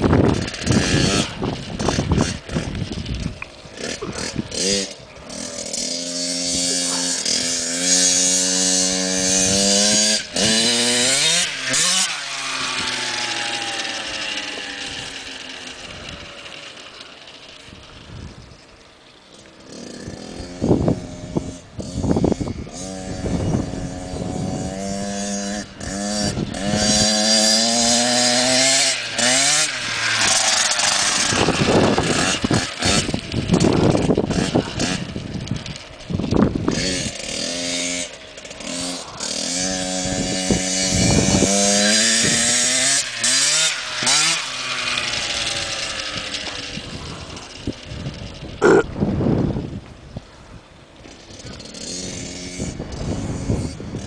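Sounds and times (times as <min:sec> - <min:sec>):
dirt bike engine revving: 0:00.0 - 0:49.7, 0:51.0 - 0:54.0.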